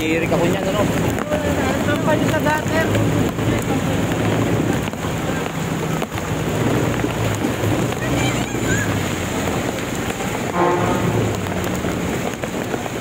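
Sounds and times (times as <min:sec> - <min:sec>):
rain: 0:00.0 - 0:13.0
water rushing and splashing: 0:00.0 - 0:13.0.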